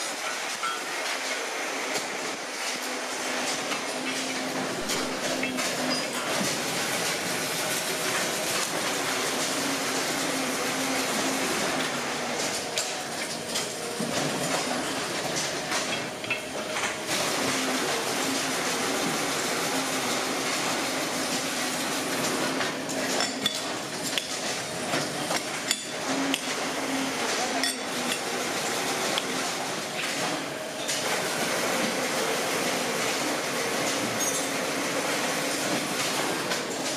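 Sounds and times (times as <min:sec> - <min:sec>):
workshop machinery running: 0:00.0 - 0:36.9.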